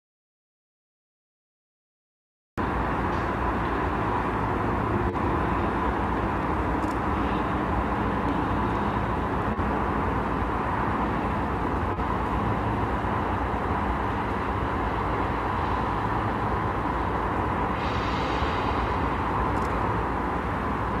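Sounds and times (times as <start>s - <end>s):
outdoor background rumble: 2.6s - 21.0s.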